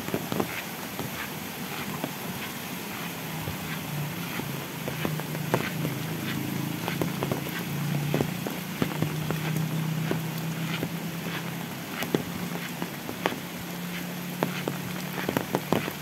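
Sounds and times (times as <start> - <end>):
rain falling on foliage: 0.0 - 16.0.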